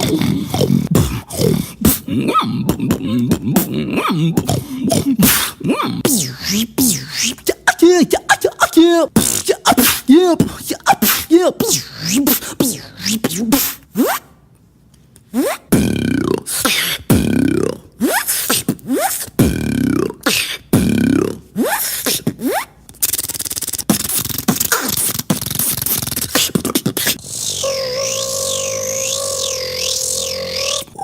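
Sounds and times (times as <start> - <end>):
beatboxing buzzing rattle: 0.0 - 14.2, 15.3 - 31.0
beatboxing vocal sweeps: 0.0 - 14.3, 15.3 - 31.0.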